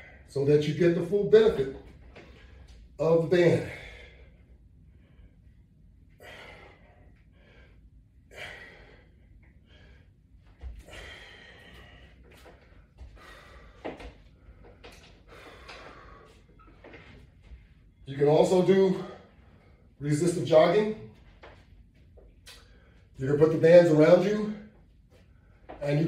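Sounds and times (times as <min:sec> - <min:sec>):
man breathing heavily: 0:00.0 - 0:00.4, 0:01.5 - 0:18.0, 0:18.6 - 0:23.2.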